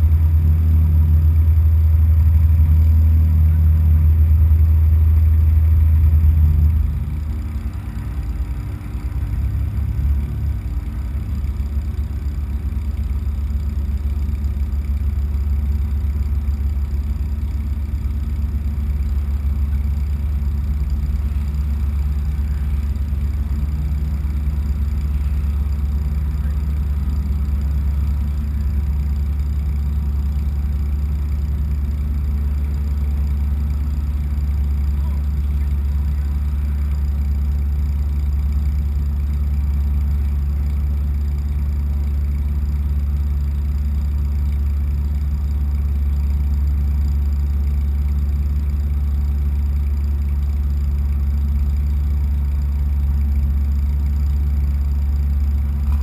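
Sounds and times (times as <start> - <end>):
race car engine idling: 0.0 - 56.0.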